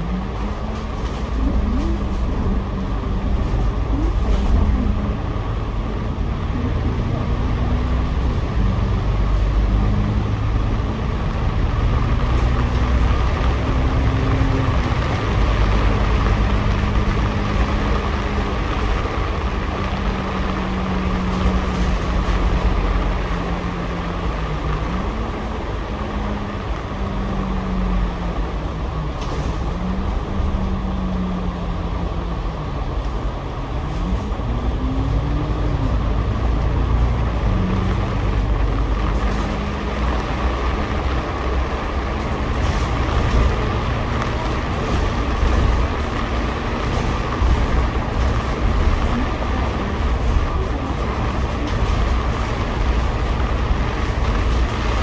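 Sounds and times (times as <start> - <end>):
bus engine droning: 0.0 - 55.0
road noise: 0.0 - 55.0.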